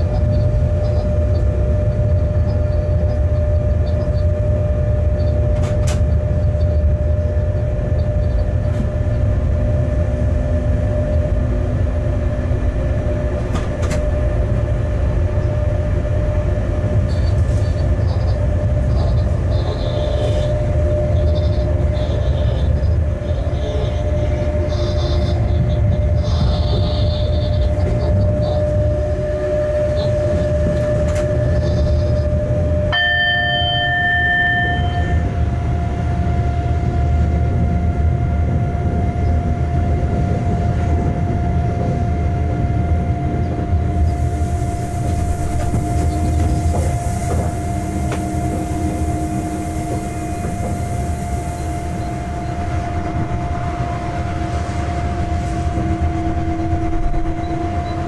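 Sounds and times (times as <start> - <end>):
locomotive rumble: 0.0 - 58.0
locomotive whine: 0.0 - 58.0.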